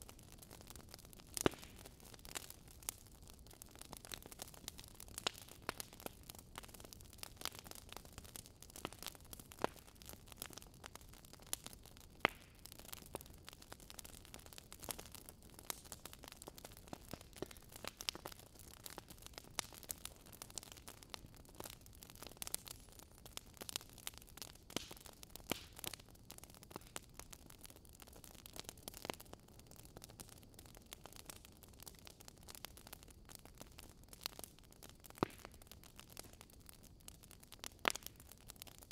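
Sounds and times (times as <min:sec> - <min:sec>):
faint steady hiss: 0:00.0 - 0:38.9
wood fire crackling: 0:00.0 - 0:38.9.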